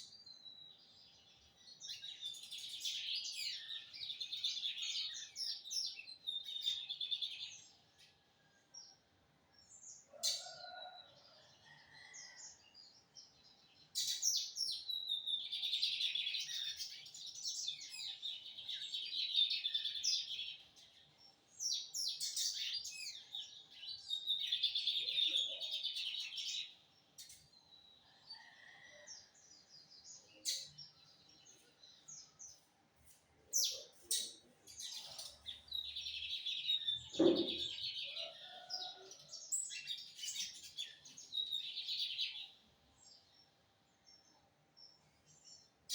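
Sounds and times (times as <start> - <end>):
bird twittering song: 0.0 - 8.2, 13.3 - 32.7, 33.4 - 45.9.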